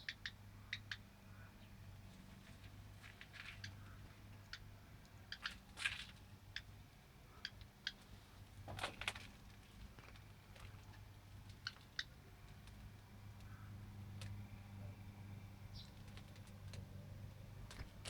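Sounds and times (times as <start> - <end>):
songbird chirps: 0.0 - 18.0.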